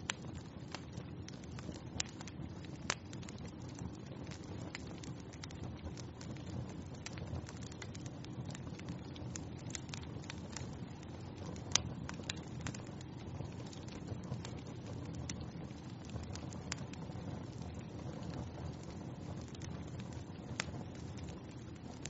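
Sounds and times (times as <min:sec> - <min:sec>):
fire burning with crackles and pops: 0:00.0 - 0:22.0.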